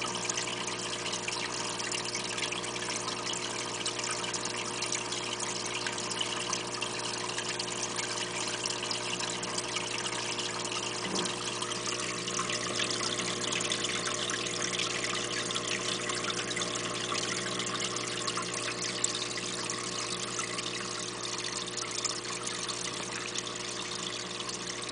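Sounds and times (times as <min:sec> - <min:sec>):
aquarium water trickling: 0:00.0 - 0:24.9.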